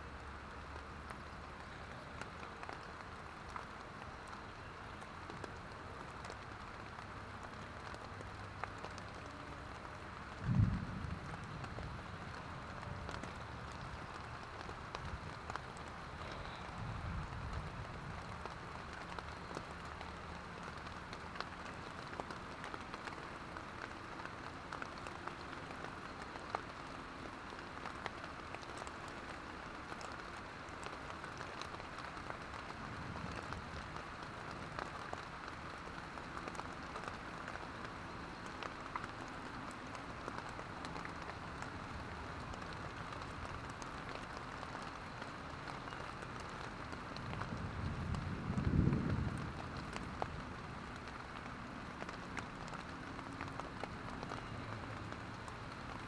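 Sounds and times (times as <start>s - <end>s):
rain pattering on a tent: 0.0s - 56.0s.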